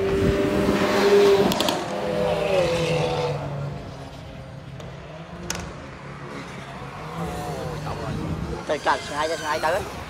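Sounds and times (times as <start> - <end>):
car engine passing at speed: 0.0 - 8.7.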